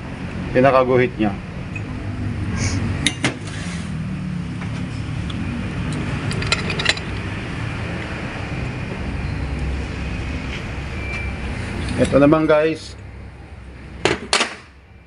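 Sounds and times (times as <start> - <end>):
machinery rumbling: 1.2 - 15.0.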